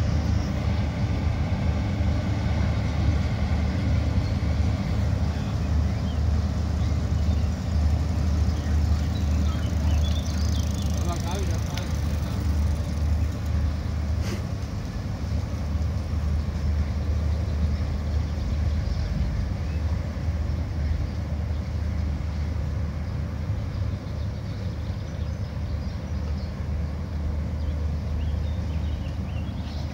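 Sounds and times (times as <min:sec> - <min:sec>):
diesel engines low drone: 0:00.0 - 0:29.9.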